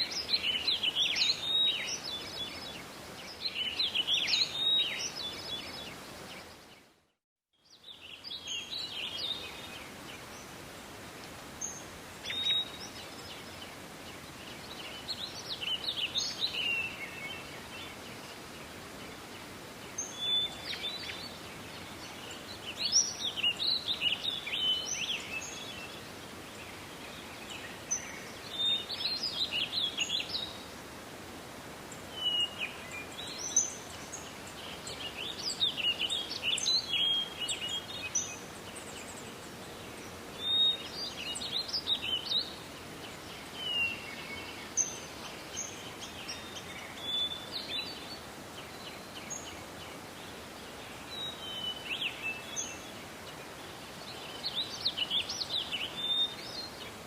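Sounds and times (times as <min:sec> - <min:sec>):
forest ambience hiss: 0:00.0 - 0:57.0
songbird singing: 0:00.0 - 0:57.0.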